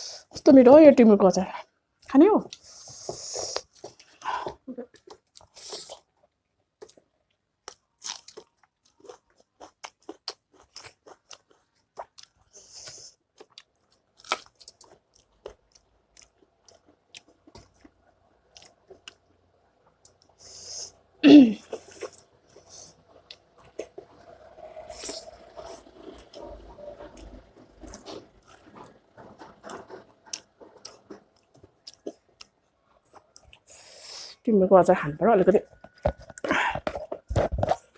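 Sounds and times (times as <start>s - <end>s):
person chewing crunchy food: 2.5s - 34.3s, 35.7s - 37.9s.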